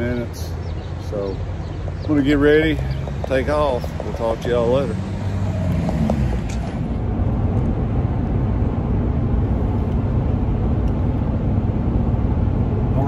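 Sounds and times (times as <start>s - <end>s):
road and engine drone in cab: 0.0s - 13.0s.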